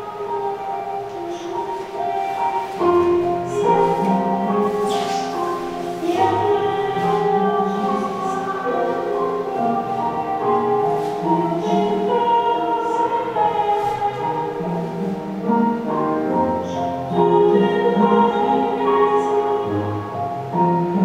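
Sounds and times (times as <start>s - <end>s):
slow choral singing: 0.0s - 21.0s.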